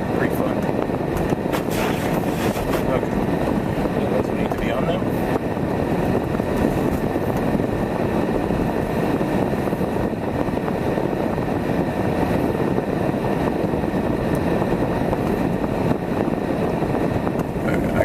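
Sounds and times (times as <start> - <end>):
car engine rumble: 0.0 - 18.0
tyres on the road: 0.0 - 18.0.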